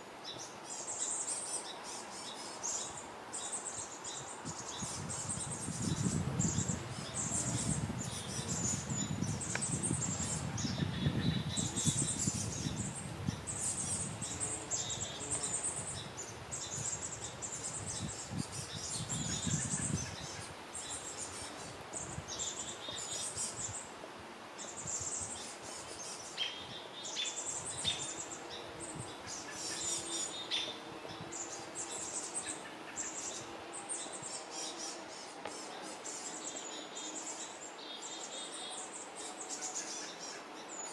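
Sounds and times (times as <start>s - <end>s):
small birds chirping: 0.2s - 23.9s, 24.6s - 40.9s.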